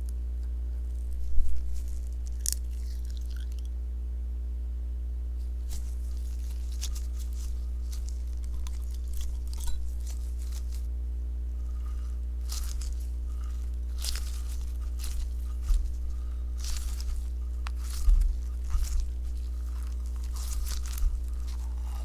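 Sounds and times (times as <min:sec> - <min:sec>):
steady low hum: 0:00.0 - 0:22.0
slime crackling and popping: 0:01.5 - 0:03.6, 0:05.6 - 0:10.9, 0:11.6 - 0:22.0.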